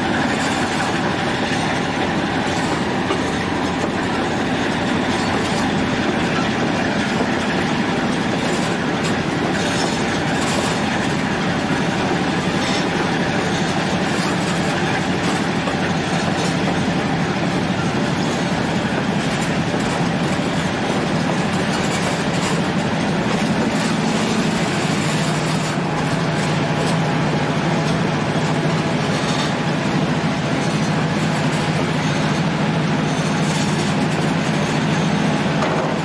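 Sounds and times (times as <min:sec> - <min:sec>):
locomotive engines: 0:00.0 - 0:36.0
train wheels rumbling on rails: 0:00.0 - 0:36.0.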